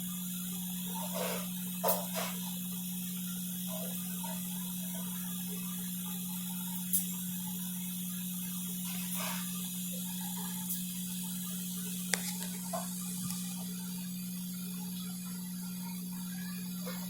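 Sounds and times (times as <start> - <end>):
constant hiss: 0.0 - 17.0
low electrical hum: 0.0 - 17.0.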